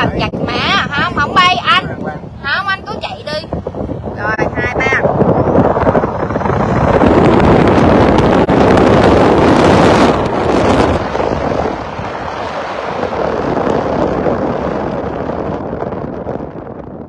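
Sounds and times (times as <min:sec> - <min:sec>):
car running noise: 0:00.0 - 0:17.0
wind rushing over microphone: 0:00.0 - 0:17.0.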